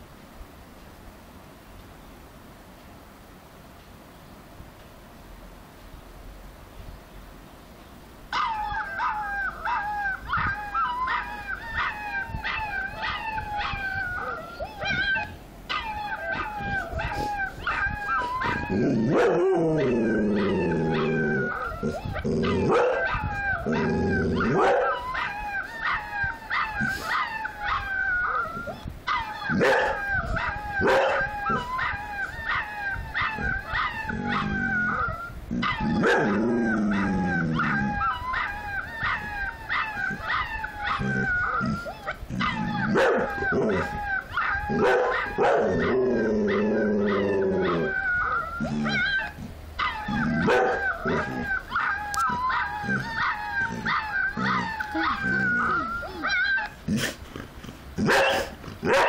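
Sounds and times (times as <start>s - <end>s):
puppies howling: 8.3s - 56.9s
dog deep howls: 8.4s - 56.9s.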